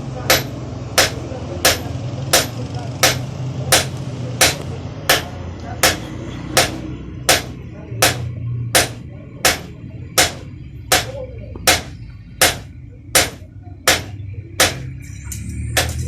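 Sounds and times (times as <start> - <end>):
hammer striking metal on anvil: 0.2 - 15.0, 15.8 - 16.0.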